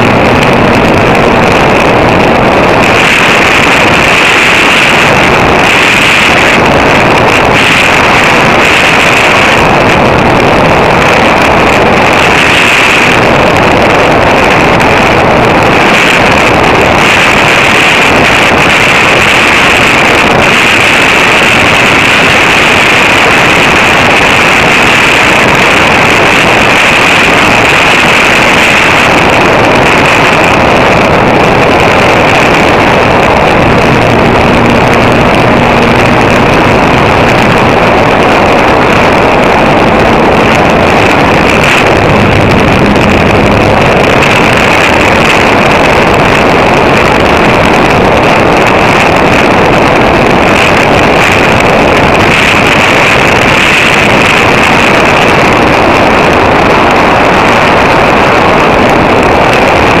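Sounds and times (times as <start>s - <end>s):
wind rush on microphone: 0.0s - 60.0s.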